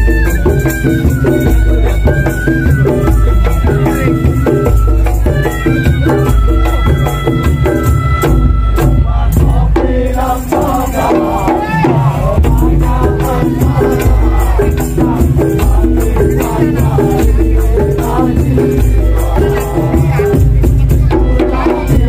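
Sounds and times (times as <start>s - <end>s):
dense percussion strokes: 0.0s - 22.0s
heavy drum beats: 0.0s - 22.0s.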